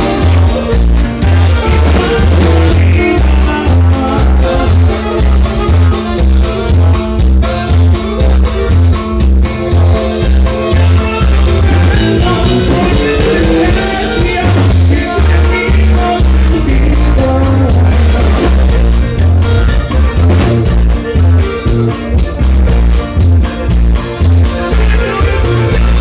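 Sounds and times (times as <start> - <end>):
live band playing dance music: 0.0 - 26.0.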